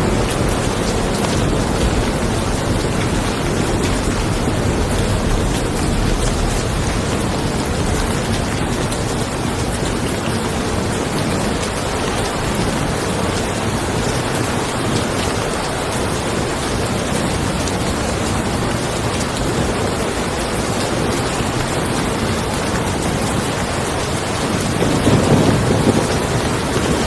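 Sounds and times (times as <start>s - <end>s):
rain falling on a car: 0.0s - 27.0s.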